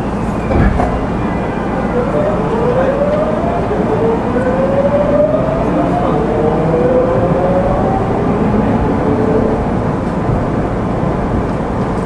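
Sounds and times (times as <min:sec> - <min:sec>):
train inverter whine rising: 0:00.0 - 0:12.0
train running gear rumble: 0:00.0 - 0:12.0.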